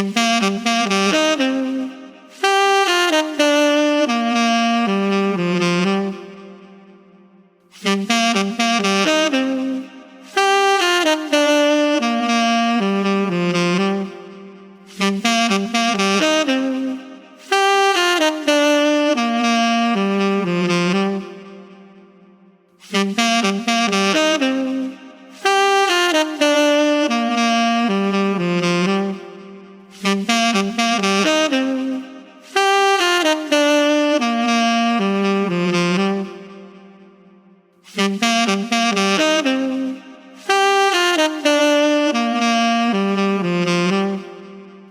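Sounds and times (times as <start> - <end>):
solo saxophone melody: 0.0 - 44.9.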